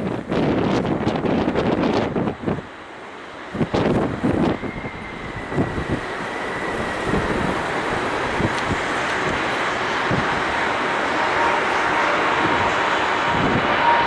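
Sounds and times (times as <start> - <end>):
wind buffeting microphone: 0.0 - 2.8, 3.4 - 14.0
jet engines roaring: 0.0 - 14.0.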